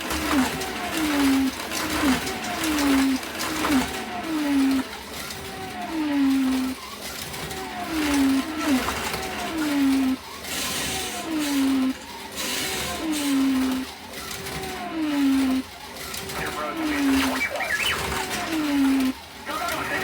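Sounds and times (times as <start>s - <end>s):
slot car motors whining: 0.0s - 20.0s.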